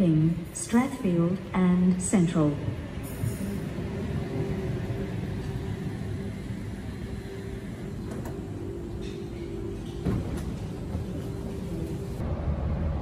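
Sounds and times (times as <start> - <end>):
train equipment humming: 0.0 - 13.0.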